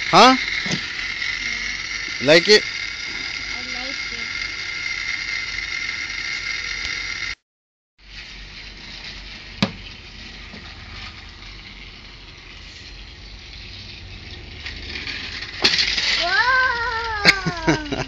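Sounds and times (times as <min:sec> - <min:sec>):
toy train motor whirring rattle: 0:00.0 - 0:07.4, 0:08.0 - 0:18.0.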